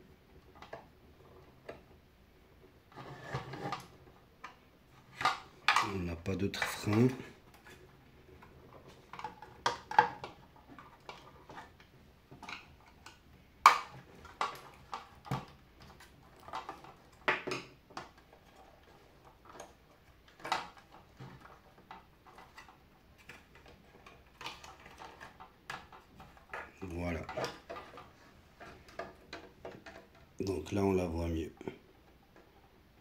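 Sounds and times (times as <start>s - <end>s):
plastic parts clicking and knocking: 0.4s - 2.0s, 2.9s - 30.7s.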